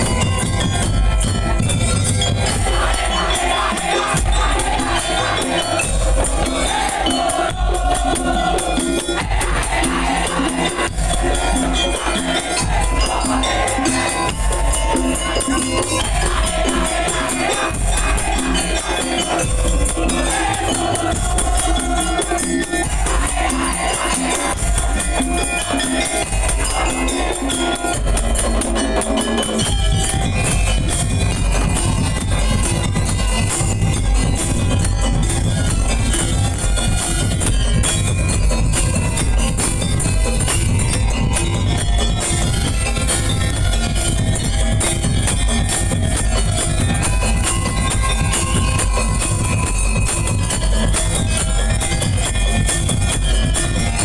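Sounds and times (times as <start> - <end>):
percussion band with melodic line: 0.0 - 54.0.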